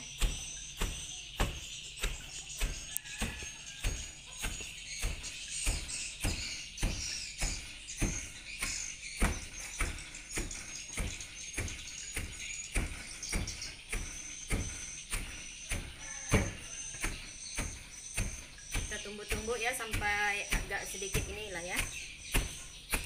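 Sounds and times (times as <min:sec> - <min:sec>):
crickets chirping: 0:00.0 - 0:23.0
wooden pestle pounding in plastic can: 0:00.0 - 0:23.0.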